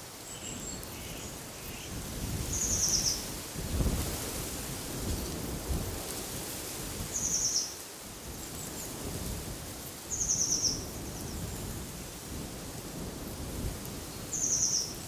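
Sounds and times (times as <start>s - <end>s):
wind with low rumbling gusts: 0.1s - 15.0s.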